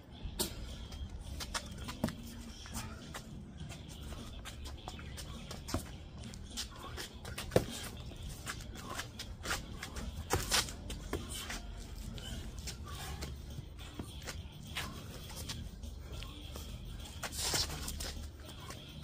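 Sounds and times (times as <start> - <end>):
sneakers shuffling on concrete: 1.0 - 19.0.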